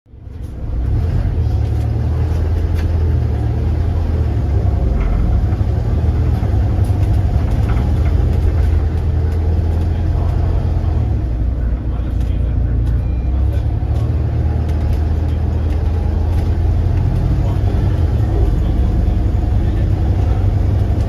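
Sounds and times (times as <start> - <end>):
bus body rattling: 0.1 - 21.0
bus diesel engine rumbling: 0.1 - 21.0.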